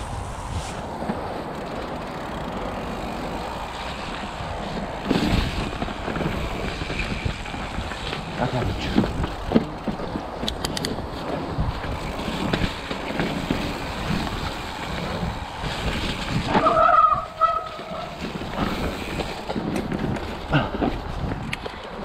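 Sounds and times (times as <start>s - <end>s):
wind on microphone: 0.0s - 21.8s
bike rattling over bumps: 0.0s - 22.0s
bike tyres rolling on dirt: 0.0s - 22.0s.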